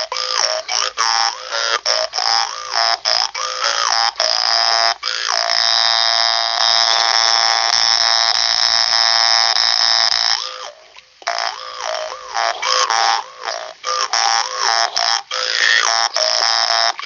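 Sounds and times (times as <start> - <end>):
jaw harp buzzing: 0.0 - 17.0.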